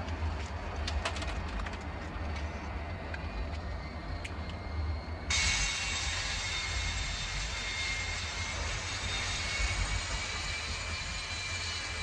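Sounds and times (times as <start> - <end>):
jet turbine engine running: 0.0 - 12.0.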